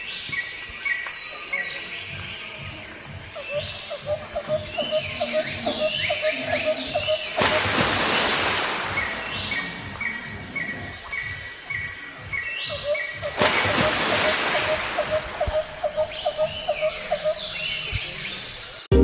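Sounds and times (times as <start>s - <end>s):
insects chirping: 0.0s - 18.9s
birds chirping: 0.0s - 19.0s.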